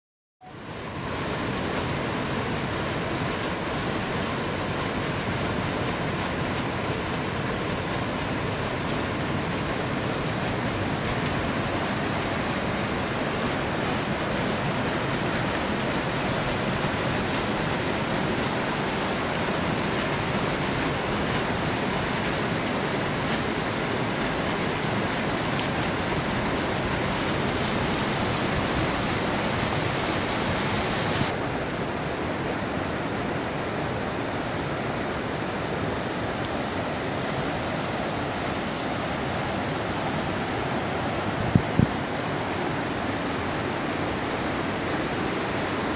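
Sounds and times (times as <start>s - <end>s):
small waterfall splashing: 0.4s - 45.9s.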